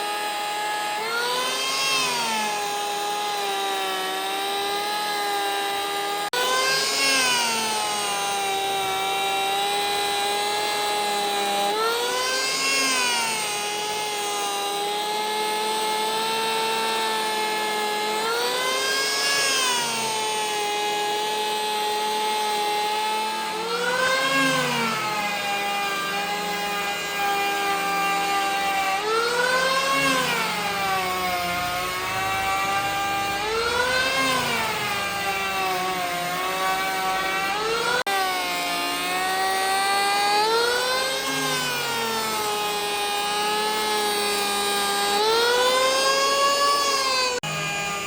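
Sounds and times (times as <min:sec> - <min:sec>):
power tool motor whining: 0:00.0 - 0:48.0.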